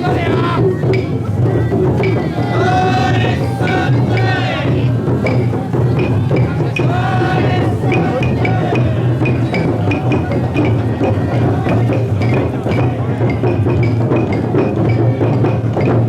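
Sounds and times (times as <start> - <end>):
people chanting: 0.0 - 16.0
taiko drum beaten: 0.0 - 16.0.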